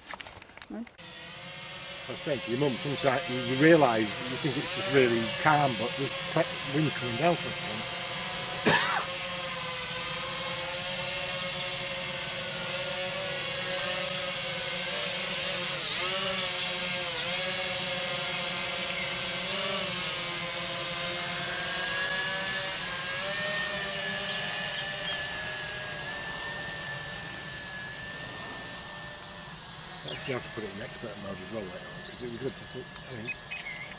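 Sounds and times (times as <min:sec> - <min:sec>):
drone propellers whining: 0:00.9 - 0:33.9.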